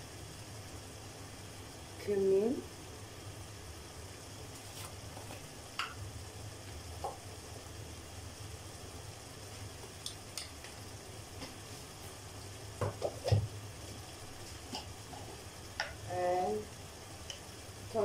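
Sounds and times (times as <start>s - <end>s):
food sizzling in a pot: 0.0s - 18.0s.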